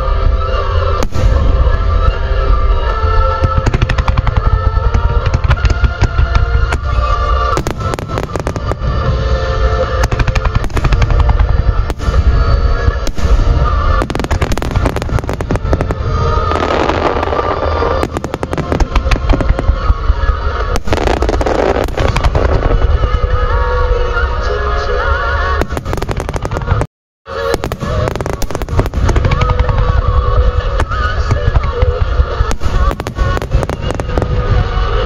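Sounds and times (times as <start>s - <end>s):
music: 0.0s - 35.0s
fireworks bursting: 0.9s - 23.9s, 25.4s - 35.0s
fireworks crackling: 1.0s - 23.8s, 25.6s - 35.0s.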